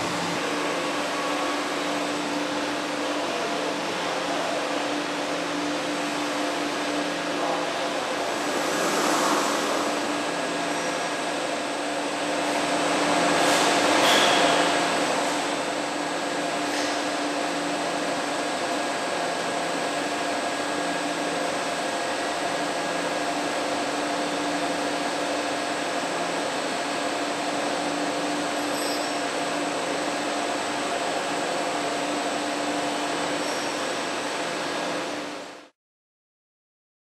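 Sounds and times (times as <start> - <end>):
machine hum: 0.0 - 35.6.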